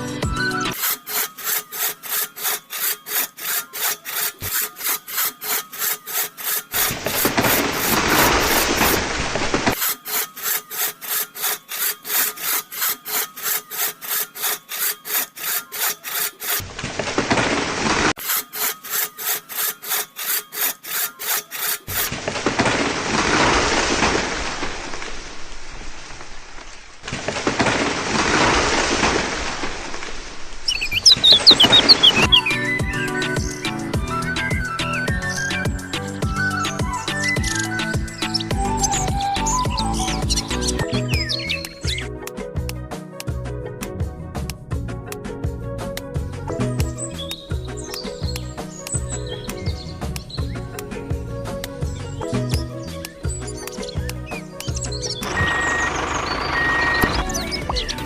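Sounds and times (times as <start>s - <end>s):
saw cutting wood: 0.0s - 24.8s, 30.7s - 42.1s, 46.5s - 58.0s.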